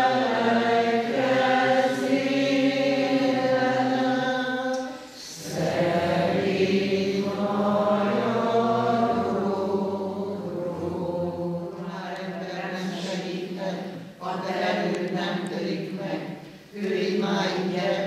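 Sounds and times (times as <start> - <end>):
slow chant-like singing: 0.0 - 18.0.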